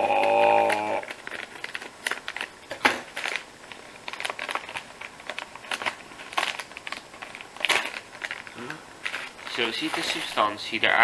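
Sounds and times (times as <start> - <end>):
plastic snack bag crackling: 0.0 - 11.0.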